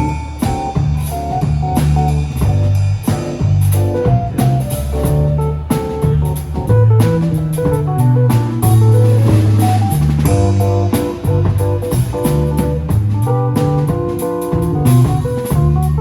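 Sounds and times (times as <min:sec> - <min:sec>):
bass guitar: 0:00.0 - 0:16.0
drum kit: 0:00.0 - 0:16.0.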